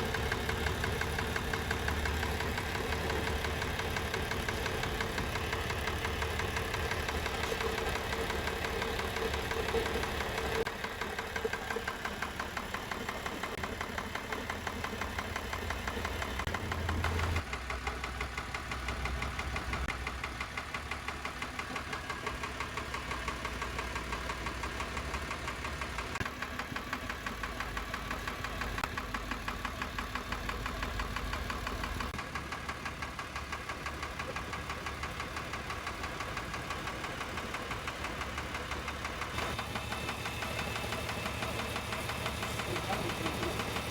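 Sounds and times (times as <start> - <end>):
diesel engine knocking: 0.0 - 43.9.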